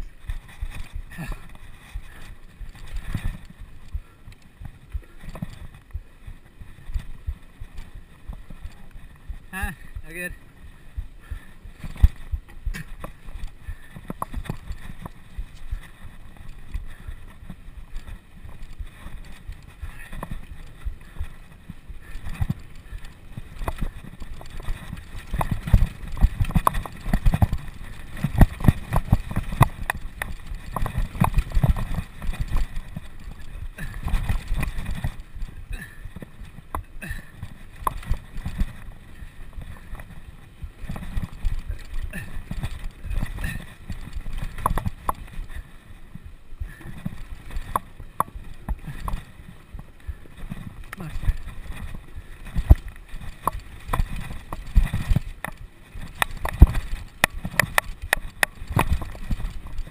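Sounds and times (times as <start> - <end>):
bicycle rattling and knocking: 0.0 - 59.9.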